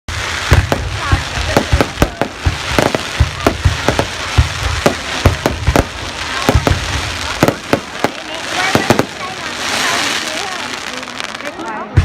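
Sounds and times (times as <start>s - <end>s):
fireworks banging: 0.1s - 12.0s.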